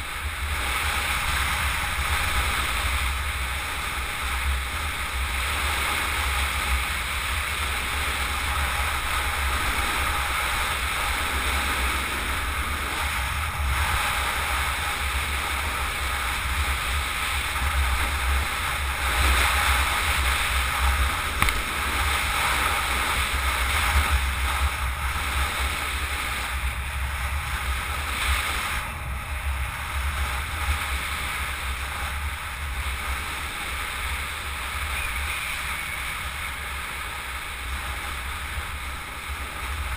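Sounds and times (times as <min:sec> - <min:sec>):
wind buffeting camera: 0:00.0 - 0:39.9.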